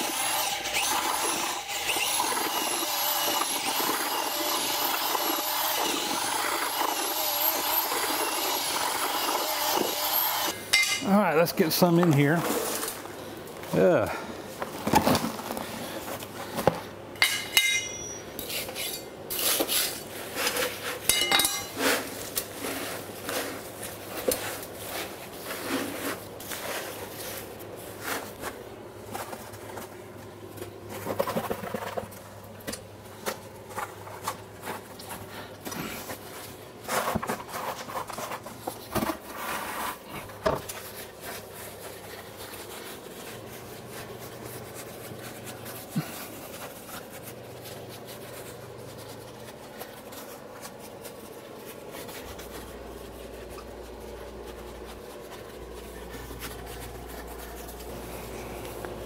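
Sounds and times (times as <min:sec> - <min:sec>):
gritty mix scraping and crunching: 0:00.0 - 0:59.0.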